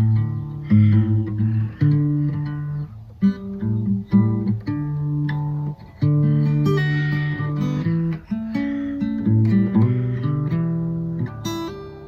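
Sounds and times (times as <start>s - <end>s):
guitar chords plucked: 0.0s - 12.0s.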